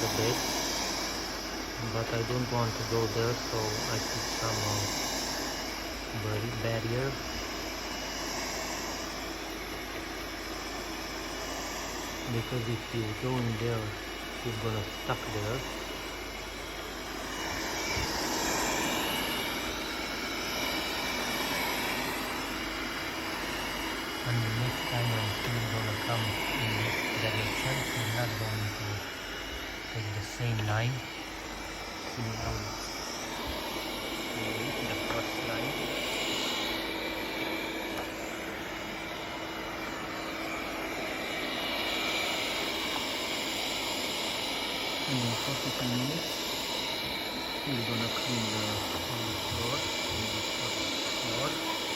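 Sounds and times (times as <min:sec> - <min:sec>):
robot vacuum cleaner running: 0:00.0 - 0:51.9.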